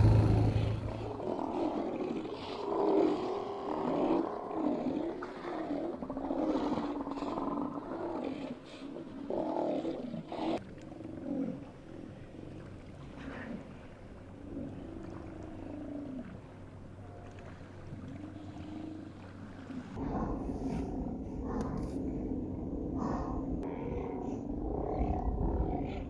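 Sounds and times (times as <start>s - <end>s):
sea lions roaring: 0.0s - 12.2s, 13.0s - 26.0s.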